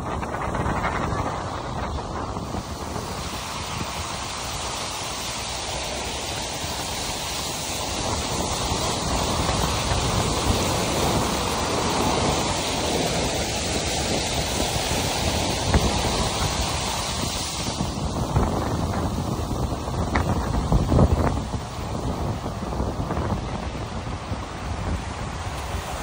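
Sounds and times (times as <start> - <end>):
tyres splashing through floodwater: 0.0 - 26.0
wind buffeting microphone: 0.0 - 26.0.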